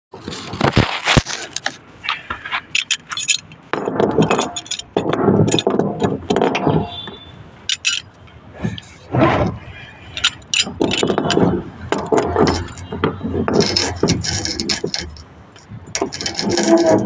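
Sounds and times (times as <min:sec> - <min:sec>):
metal scraping: 0:00.2 - 0:17.0
sharp knocks: 0:02.3 - 0:09.6, 0:10.2 - 0:17.0
metal clinking: 0:02.3 - 0:17.0.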